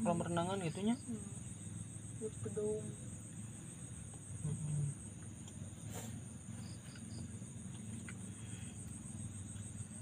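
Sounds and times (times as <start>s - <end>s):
crickets chirping: 0.0s - 10.0s
low steady hum: 0.0s - 10.0s.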